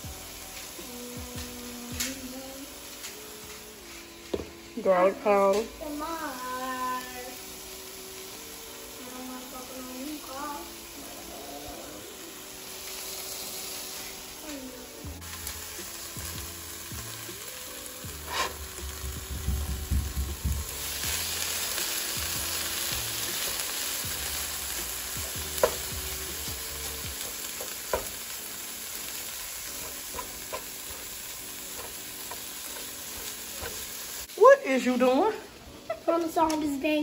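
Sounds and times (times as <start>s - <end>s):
meat sizzling in a frying pan: 0.0s - 37.0s.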